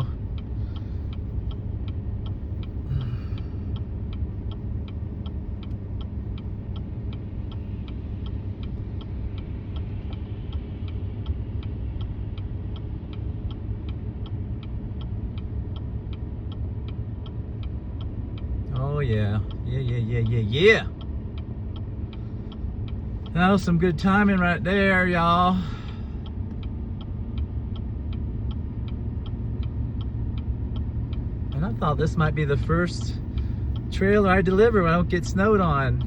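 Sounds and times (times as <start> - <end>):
rapid even ticking: 0.0 - 36.0
truck engine rumble inside cab: 0.0 - 36.0.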